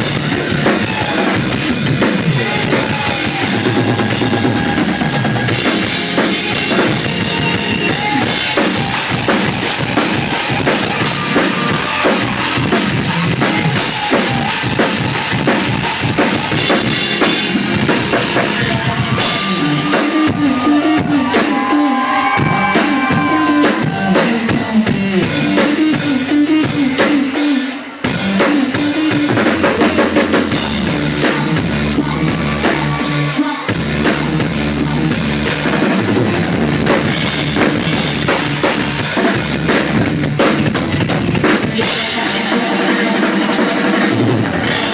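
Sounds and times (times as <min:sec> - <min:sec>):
drum solo on full kit: 0:00.0 - 0:44.9.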